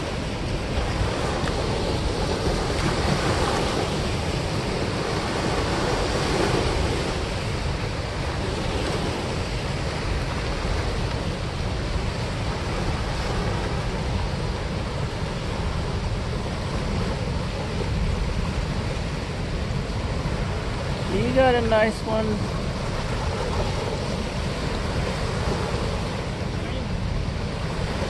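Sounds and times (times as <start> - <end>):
white water rushing: 0.0 - 28.0.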